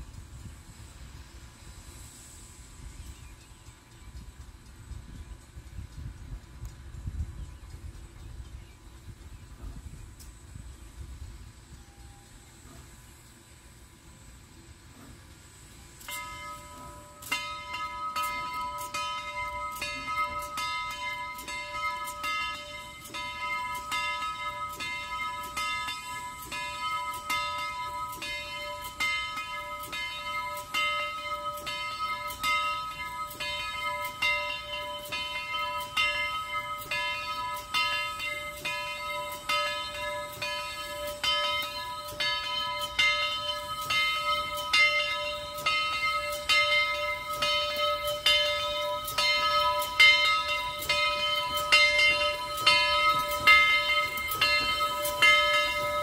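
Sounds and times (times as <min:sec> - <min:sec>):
railroad bell ringing: 0:00.0 - 0:56.0.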